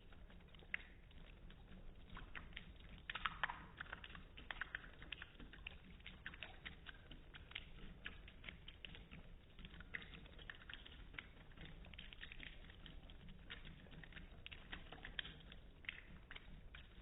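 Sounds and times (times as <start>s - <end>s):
cat lapping water: 0.0s - 17.0s.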